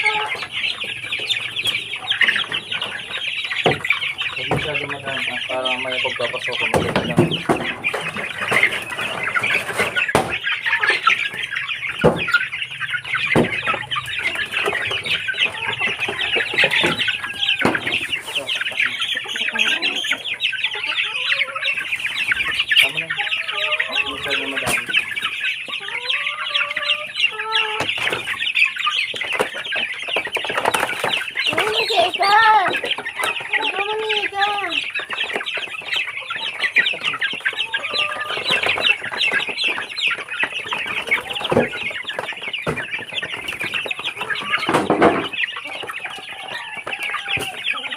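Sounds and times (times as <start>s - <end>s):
chicks peeping: 0.0s - 47.9s
hens clucking and calling: 0.0s - 47.9s.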